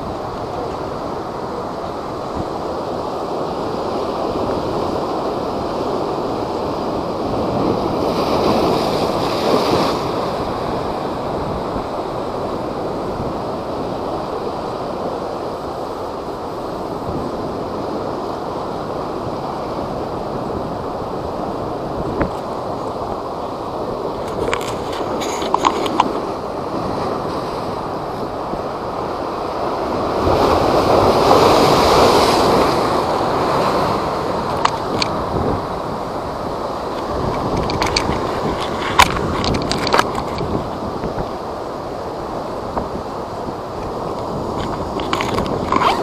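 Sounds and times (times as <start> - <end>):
high waves breaking: 0.0 - 46.0
wind: 0.0 - 46.0.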